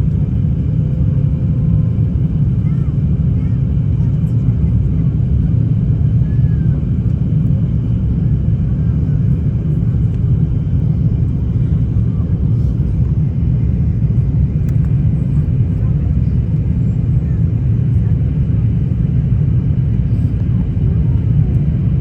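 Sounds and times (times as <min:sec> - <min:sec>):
airliner engine rumble in cabin: 0:00.0 - 0:22.0.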